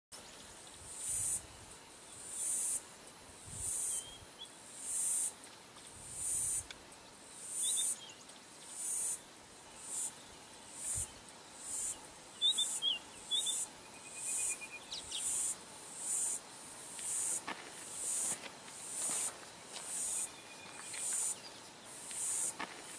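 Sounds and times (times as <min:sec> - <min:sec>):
insect calling in high pulses: 0:00.8 - 0:06.7, 0:07.3 - 0:22.9.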